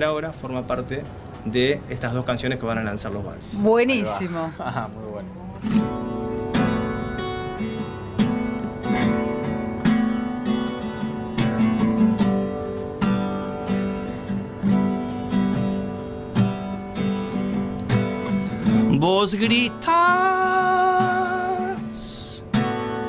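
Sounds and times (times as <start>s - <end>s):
acoustic guitar chords: 3.6s - 23.0s.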